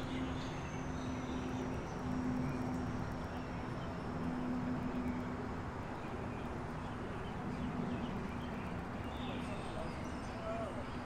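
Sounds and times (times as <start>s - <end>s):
background traffic noise: 0.0s - 11.0s.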